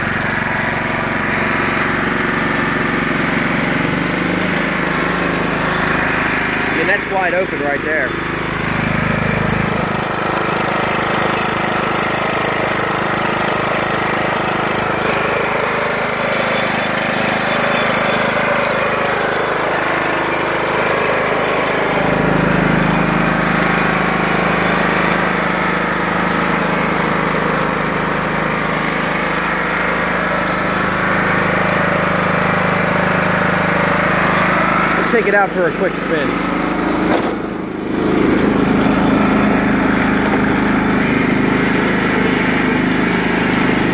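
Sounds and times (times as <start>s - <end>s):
lawn tractor engine running: 0.0s - 43.9s.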